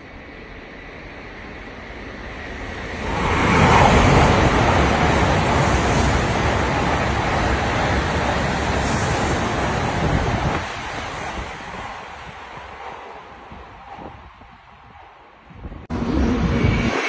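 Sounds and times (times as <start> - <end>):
train rushing past at speed: 0.1 - 17.0.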